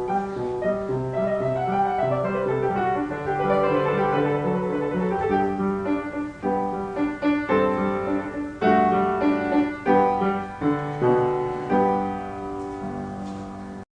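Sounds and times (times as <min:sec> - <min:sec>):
piano chords ringing: 0:00.0 - 0:13.9.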